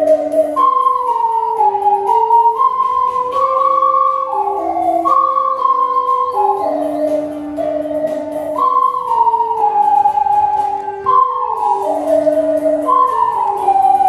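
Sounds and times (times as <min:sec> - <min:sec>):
ocarina ensemble playing melody: 0:00.0 - 0:14.0.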